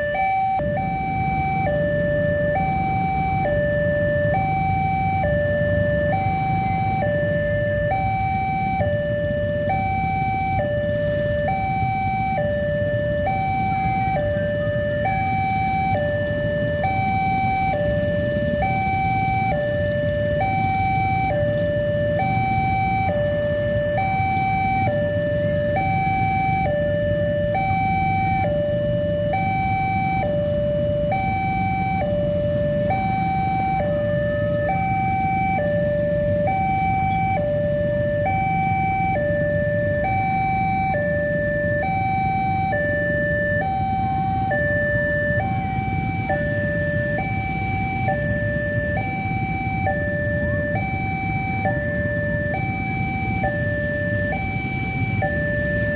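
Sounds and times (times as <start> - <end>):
two-tone crossing alarm: 0.0 - 55.9.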